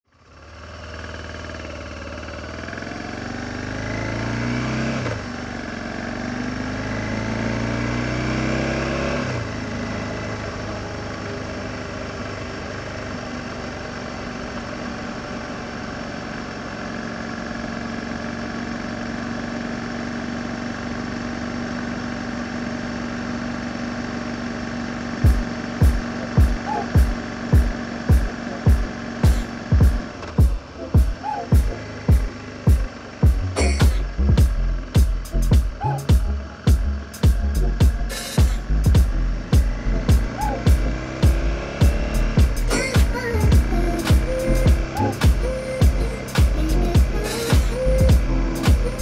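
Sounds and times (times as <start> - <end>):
motorcycle engine accelerating: 0.1 - 49.0.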